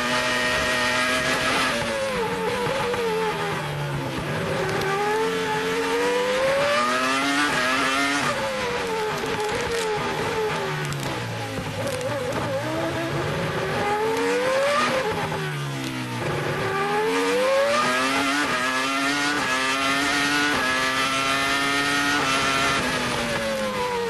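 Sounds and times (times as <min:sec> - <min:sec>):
racing car engine: 0:00.0 - 0:24.0.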